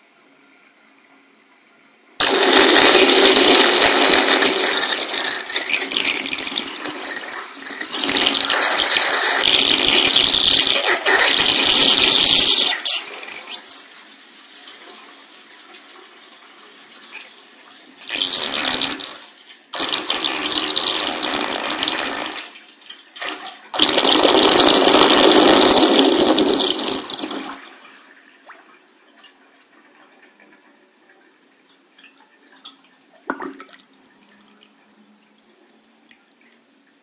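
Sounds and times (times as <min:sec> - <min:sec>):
water draining from bathtub: 0:02.2 - 0:37.0.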